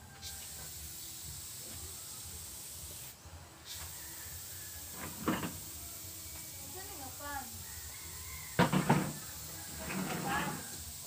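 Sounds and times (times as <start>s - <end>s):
airbrush spraying hiss: 0.0s - 11.0s.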